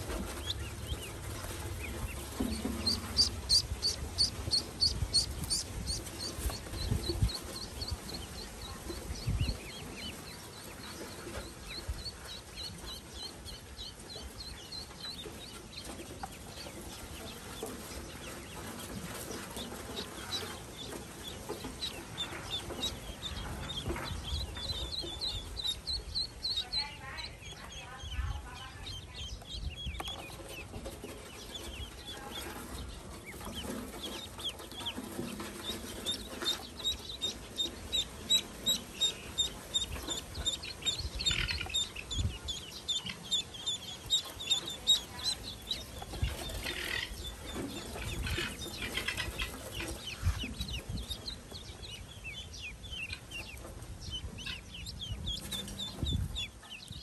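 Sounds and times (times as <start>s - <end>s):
ducklings peeping: 0.0s - 57.0s.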